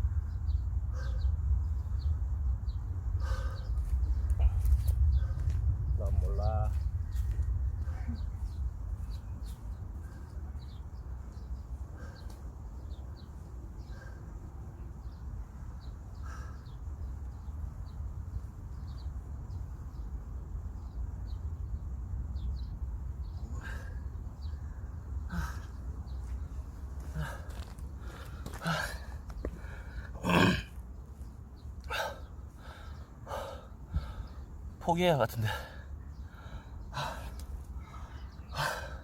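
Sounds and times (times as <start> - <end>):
steady low rumble: 0.0 - 34.8
small birds chirping: 0.0 - 39.0.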